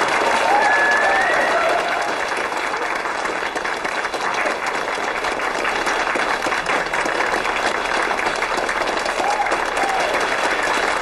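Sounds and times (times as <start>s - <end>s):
people applauding: 0.0s - 11.0s.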